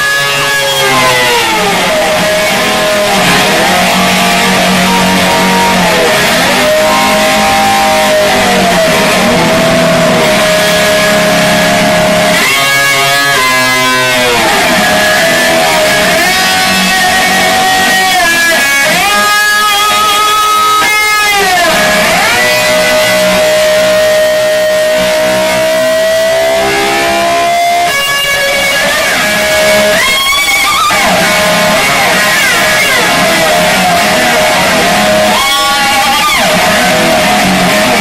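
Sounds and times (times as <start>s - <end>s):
electric slide guitar: 0.0s - 38.0s.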